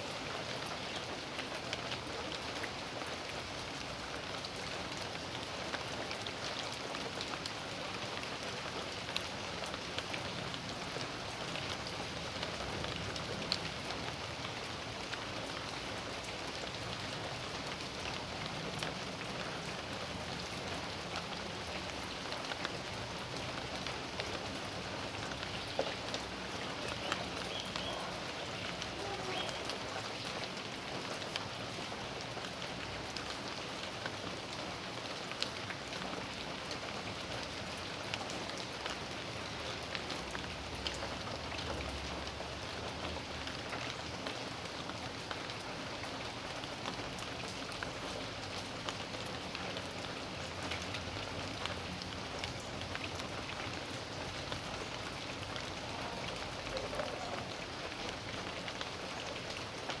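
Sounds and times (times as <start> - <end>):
raindrops dripping and pattering: 0.0 - 60.0
steady rain hiss: 0.0 - 60.0.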